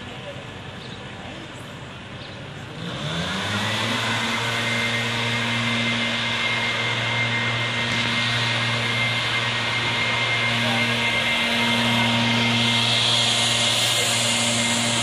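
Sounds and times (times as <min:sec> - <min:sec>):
motor humming and whining: 0:00.0 - 0:15.0.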